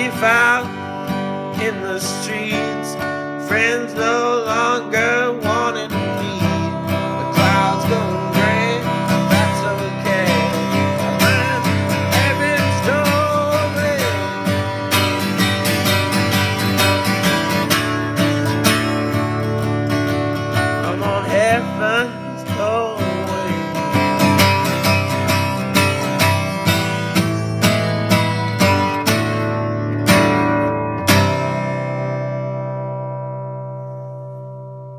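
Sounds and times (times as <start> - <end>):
strummed acoustic guitar: 0.0 - 34.9.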